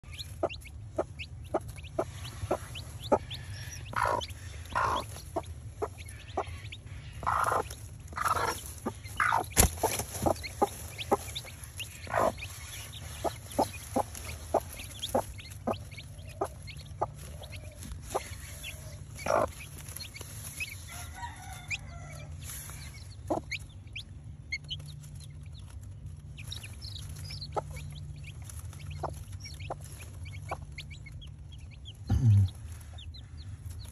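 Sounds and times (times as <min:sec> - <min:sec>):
hen clucking: 0:00.0 - 0:33.9.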